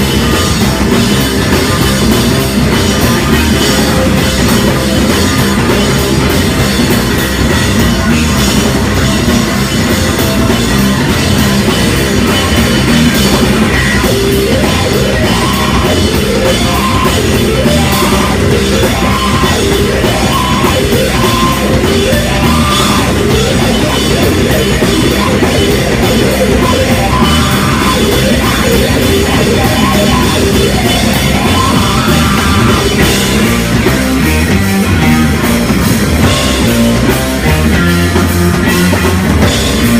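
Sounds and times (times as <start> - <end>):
heavy rock band playing live: 0.0 - 39.9.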